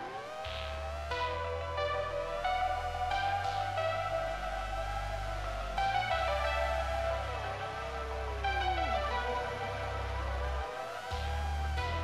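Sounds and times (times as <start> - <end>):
music with gliding tones: 0.0 - 12.0
steady bass: 0.5 - 12.0.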